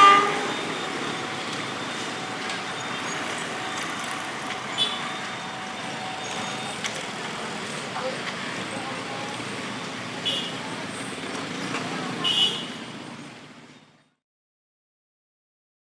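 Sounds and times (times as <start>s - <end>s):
road traffic passing: 0.0s - 14.1s.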